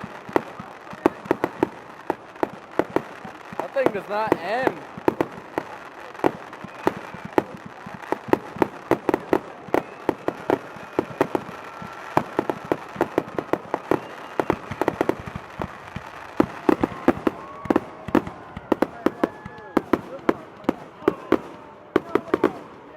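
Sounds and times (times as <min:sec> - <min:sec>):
fireworks popping and banging: 0:00.0 - 0:22.9
fireworks whistling: 0:00.0 - 0:22.9.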